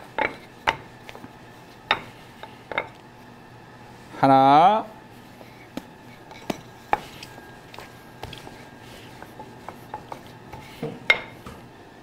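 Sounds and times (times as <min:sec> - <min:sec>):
rolling pin rolling dough: 0:00.0 - 0:03.3, 0:05.1 - 0:11.7.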